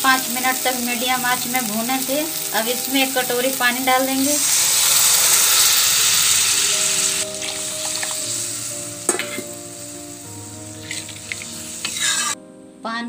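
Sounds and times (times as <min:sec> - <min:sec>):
water sizzling in hot pan: 0:00.0 - 0:12.4
background music: 0:00.0 - 0:13.0.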